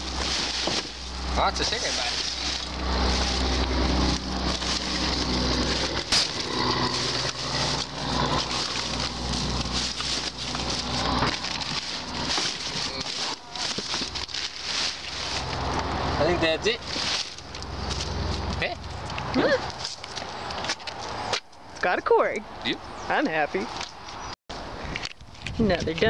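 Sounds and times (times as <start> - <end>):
trash rustling and crinkling: 0.0 - 21.1.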